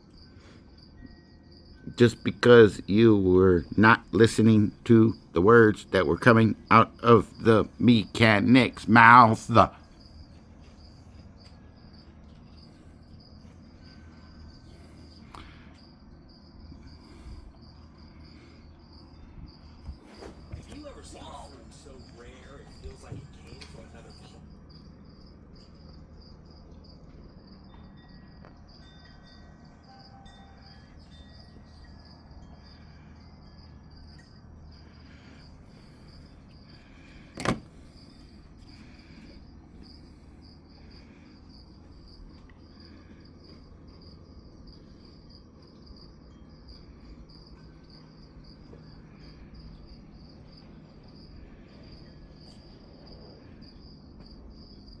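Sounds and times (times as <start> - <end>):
insect chirping: 0.0 - 55.0.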